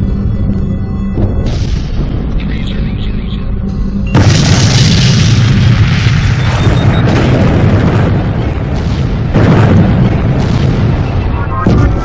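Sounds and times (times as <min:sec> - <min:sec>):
deep booming rumble: 0:00.0 - 0:12.0
soundtrack music: 0:00.0 - 0:12.0.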